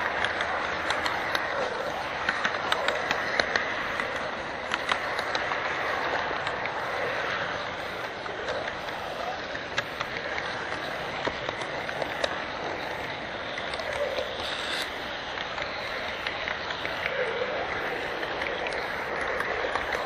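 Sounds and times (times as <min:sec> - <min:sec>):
clicks over rail joints: 0:00.0 - 0:20.0
model train wheels rolling hiss: 0:00.0 - 0:20.0.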